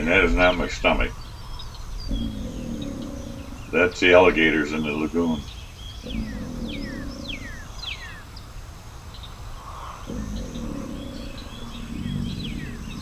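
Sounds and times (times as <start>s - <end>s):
small birds chirping: 0.0s - 13.0s
alligators bellowing: 2.0s - 13.0s.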